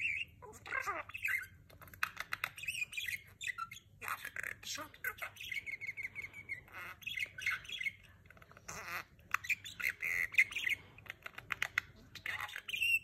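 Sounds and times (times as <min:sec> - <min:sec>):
budgerigars chirping and warbling: 0:00.0 - 0:13.0.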